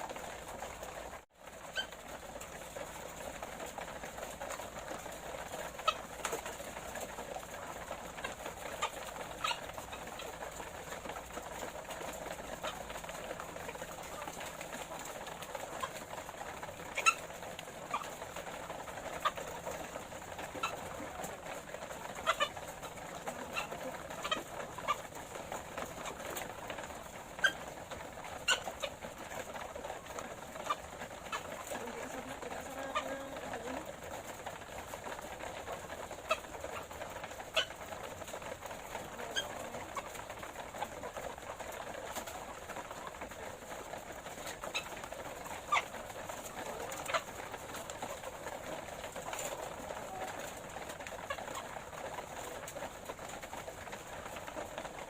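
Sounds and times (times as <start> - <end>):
hens clucking: 0.0 - 55.0.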